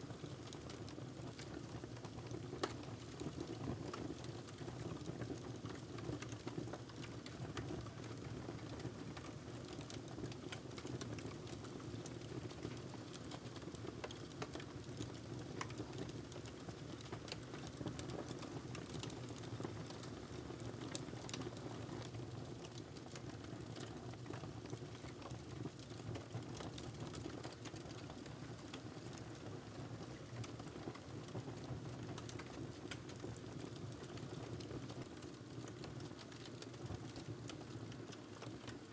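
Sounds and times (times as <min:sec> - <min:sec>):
wood fire crackling and popping: 0:00.1 - 0:38.9.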